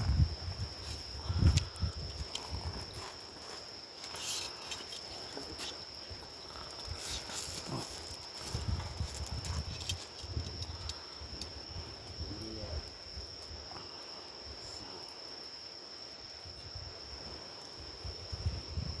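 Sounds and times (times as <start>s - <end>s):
campfire crackling: 0.0s - 19.0s
insect trilling: 0.0s - 19.0s.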